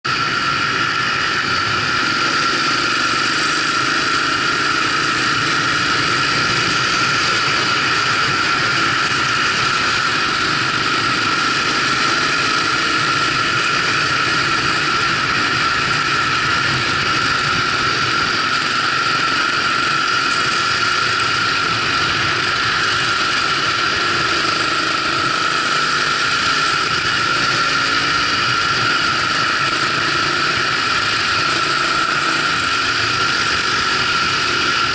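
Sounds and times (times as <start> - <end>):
dirt bike engine running: 0.0 - 34.9
wind and road noise: 0.0 - 34.9.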